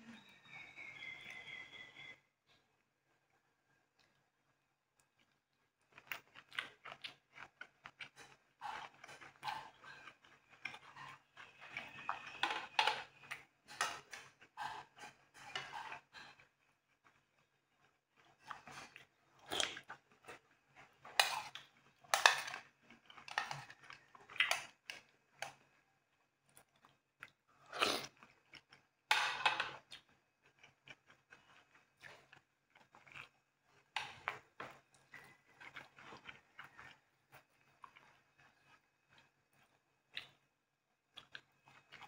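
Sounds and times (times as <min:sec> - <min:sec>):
chewing and crunching food: 0:00.1 - 0:42.0.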